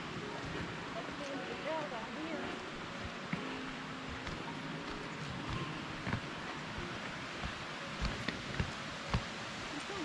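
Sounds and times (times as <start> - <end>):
footsteps on trail: 0.0 - 10.0
running water of mountain stream: 0.0 - 10.0.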